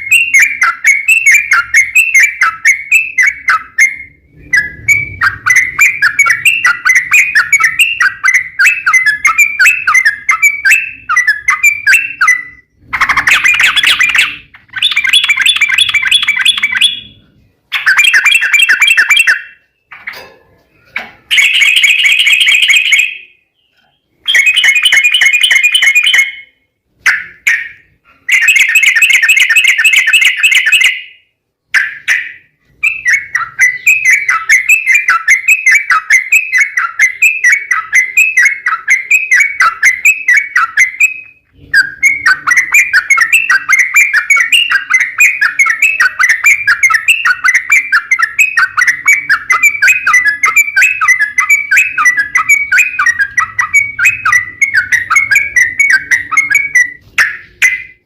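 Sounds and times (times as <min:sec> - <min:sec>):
bulbul chattering whistled song: 0:00.0 - 0:20.1, 0:21.2 - 0:58.0.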